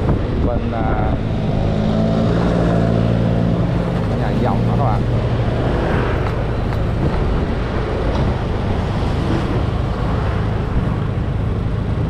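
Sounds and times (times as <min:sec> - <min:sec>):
other motorbikes in traffic: 0:00.0 - 0:12.0
road and wind noise: 0:00.0 - 0:12.0.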